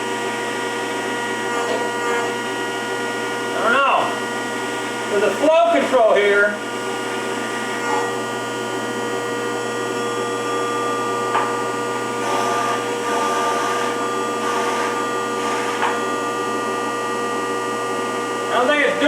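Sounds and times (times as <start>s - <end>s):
planer motor and pump whine: 0.0s - 19.0s.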